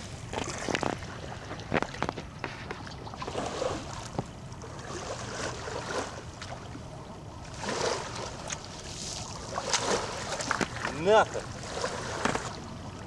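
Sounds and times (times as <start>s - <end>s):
water swishing and sloshing: 0.0s - 13.0s.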